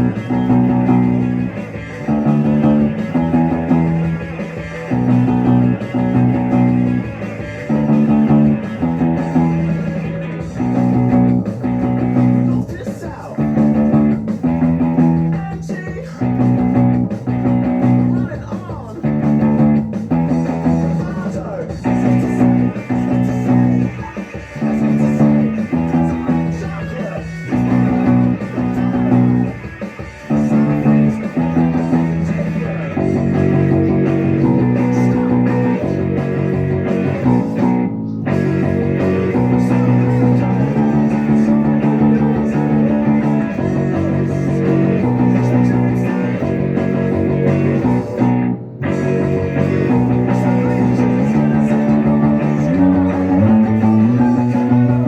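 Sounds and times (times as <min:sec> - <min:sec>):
rock music with guitars: 0:00.0 - 0:55.0.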